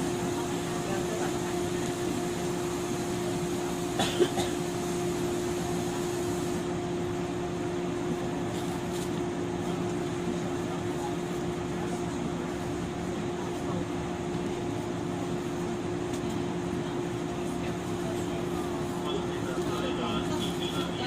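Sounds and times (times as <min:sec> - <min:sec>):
electric train equipment hum: 0:00.0 - 0:21.0.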